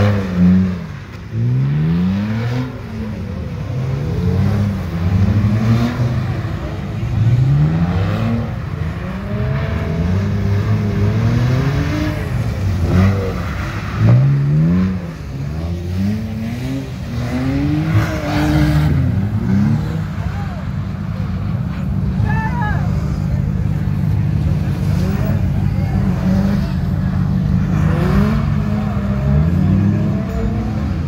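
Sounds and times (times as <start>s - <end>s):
car engines revving hard: 0.0s - 31.0s.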